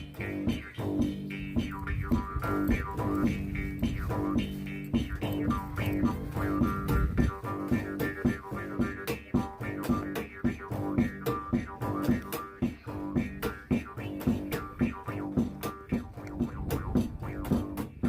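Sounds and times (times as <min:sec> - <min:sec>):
plucked notes: 0:00.0 - 0:18.0
steady even beat: 0:00.0 - 0:18.0.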